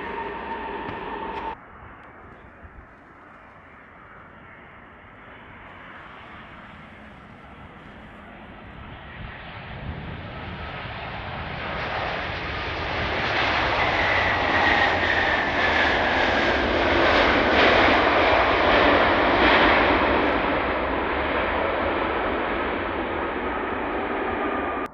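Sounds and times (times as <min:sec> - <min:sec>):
descending engine whine: 0:00.0 - 0:24.9
jet airliner landing: 0:00.0 - 0:24.9.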